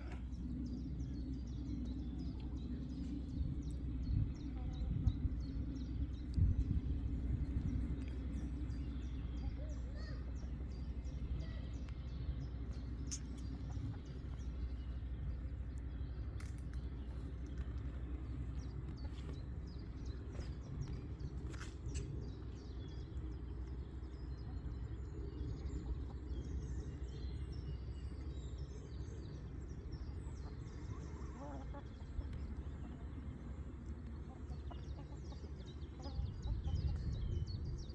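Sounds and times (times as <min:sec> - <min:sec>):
low rumble: 0:00.0 - 0:37.9
small birds chirping: 0:00.0 - 0:37.9.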